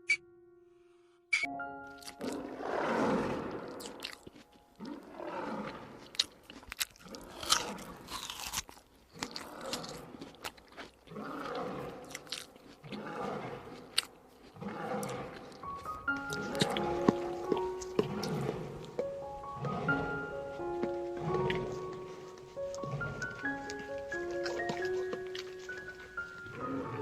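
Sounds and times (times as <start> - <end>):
animal crunching food: 3.7 - 27.0.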